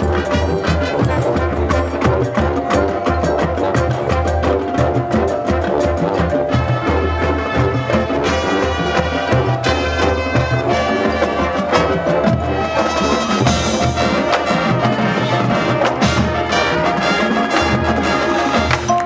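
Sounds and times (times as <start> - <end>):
brass chords: 0.0 - 19.0
drums and percussion: 0.0 - 19.0.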